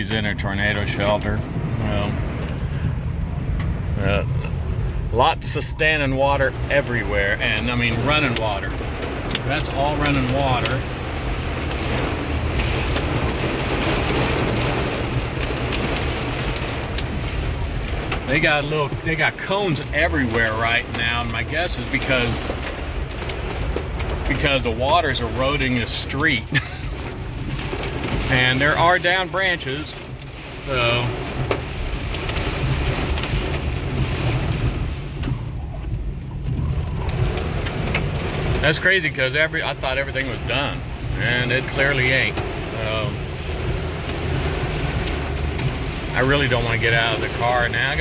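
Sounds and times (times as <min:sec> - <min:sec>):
car driving rumble: 0:00.0 - 0:48.0
heavy rain on car roof: 0:00.0 - 0:48.0.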